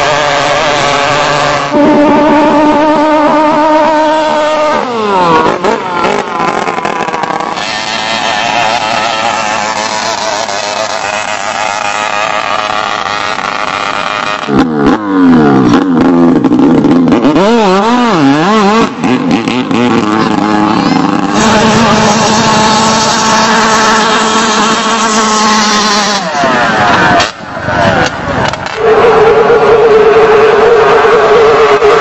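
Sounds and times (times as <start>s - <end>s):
boat engines at high revs: 0.0s - 32.0s.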